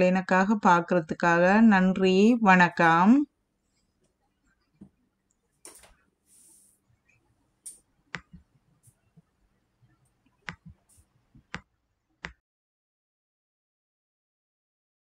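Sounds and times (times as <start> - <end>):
low room noise: 0.0 - 12.3.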